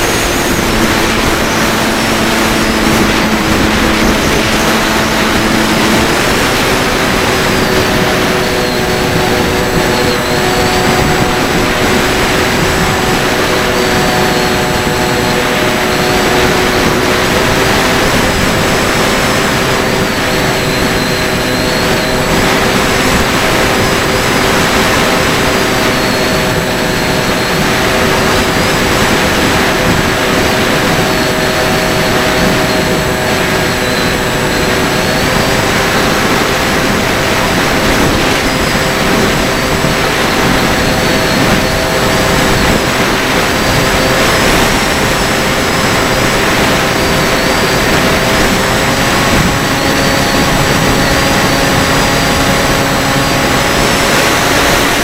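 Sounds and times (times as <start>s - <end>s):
electric motor and propeller whine: 0.0s - 55.0s
steady rushing noise: 0.0s - 55.0s.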